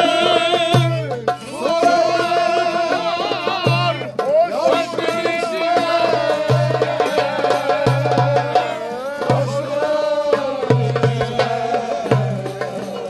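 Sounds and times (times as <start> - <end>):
deep beat: 0.0 - 13.0.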